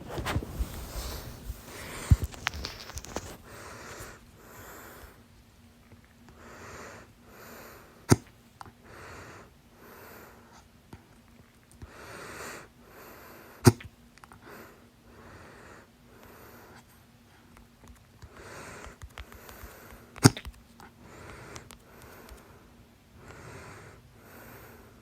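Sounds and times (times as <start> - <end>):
breathing in and out: 0.0 - 5.3, 6.3 - 8.1, 8.8 - 10.7, 11.8 - 13.7, 14.3 - 17.6, 18.2 - 25.0.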